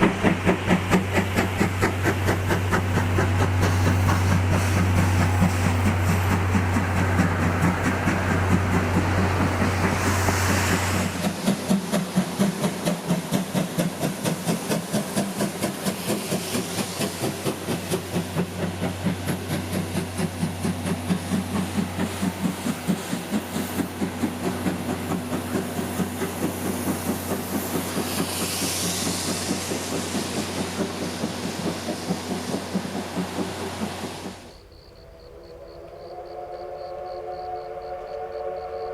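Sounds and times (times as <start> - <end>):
steam hissing: 0.0 - 38.9
steam locomotive chuffing: 0.0 - 38.9.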